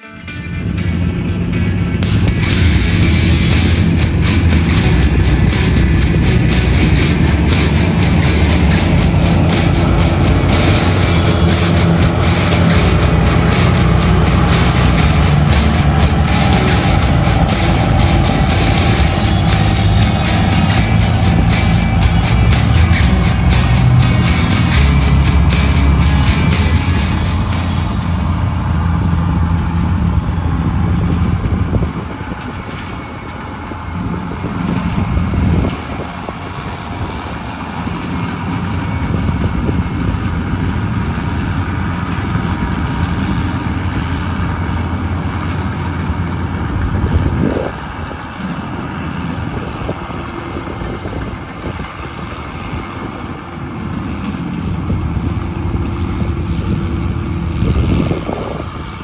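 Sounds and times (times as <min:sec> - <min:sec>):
combine harvester engine: 0:00.0 - 0:59.0
threshing machinery running: 0:00.3 - 0:59.0.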